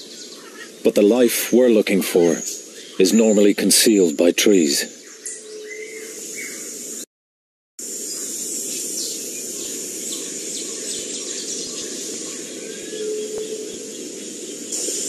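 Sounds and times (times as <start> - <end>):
bird chirps and calls: 0.0 - 6.8, 8.9 - 15.0
insect hum: 0.0 - 7.1, 7.8 - 15.0.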